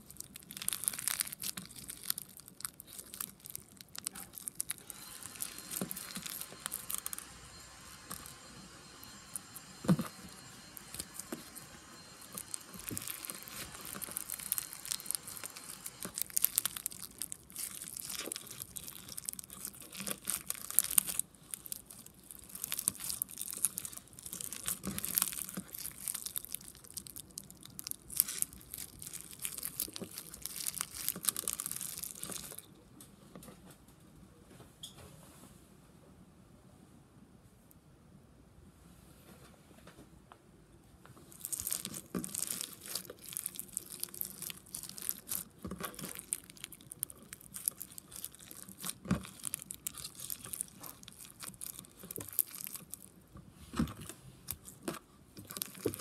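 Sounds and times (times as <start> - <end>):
slime crackling and popping: 0.0 - 32.8, 41.2 - 56.0.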